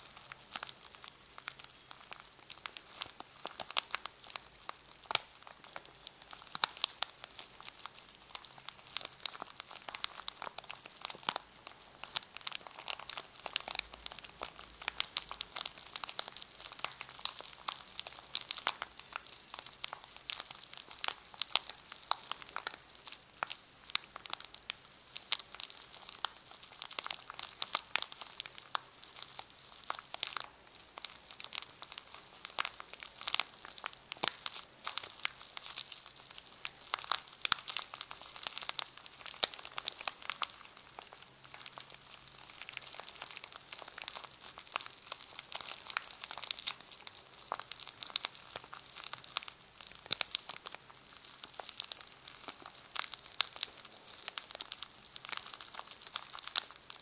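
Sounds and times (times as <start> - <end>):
plastic packaging crinkling: 0.0 - 57.0.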